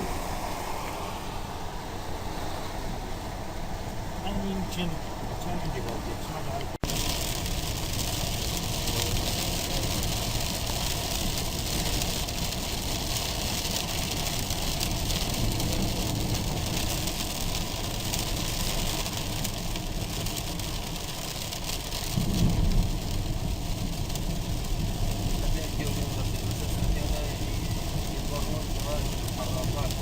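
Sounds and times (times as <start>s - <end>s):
vehicle engine and road noise: 0.0s - 30.0s.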